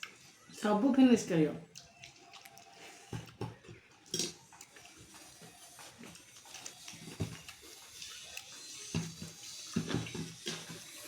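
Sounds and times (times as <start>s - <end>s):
soft eating noises: 0.0s - 11.0s.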